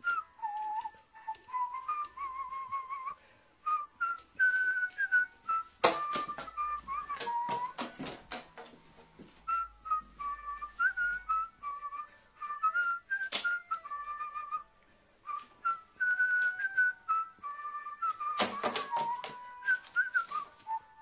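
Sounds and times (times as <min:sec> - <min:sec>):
whistled tune: 0:00.0 - 0:21.0.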